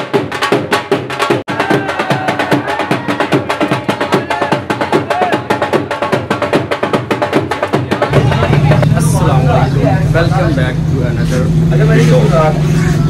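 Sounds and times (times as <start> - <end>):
dhol drumming dance music: 0.0 - 10.6.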